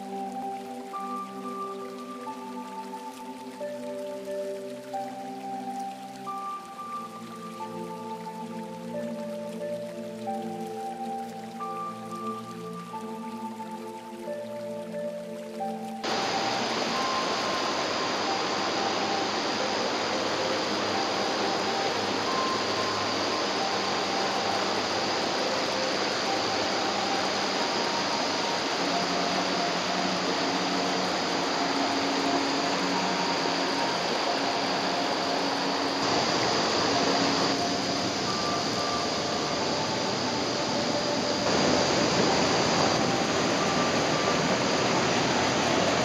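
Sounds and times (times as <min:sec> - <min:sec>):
stream and waterfall rushing: 0:00.0 - 0:46.0.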